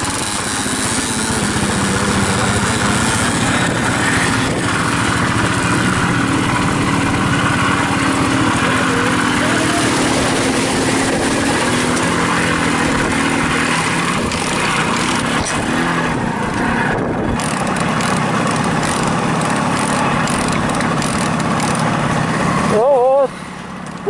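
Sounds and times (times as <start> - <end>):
moped engines running: 0.0 - 24.0
steady rushing noise: 0.0 - 24.0.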